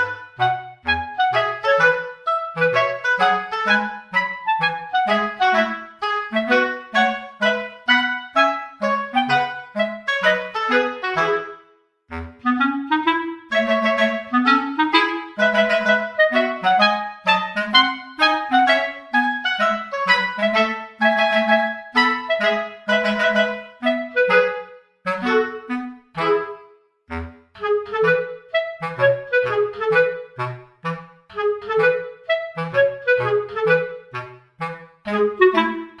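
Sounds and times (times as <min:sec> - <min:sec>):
woodwind-like background music: 0:00.0 - 0:36.0.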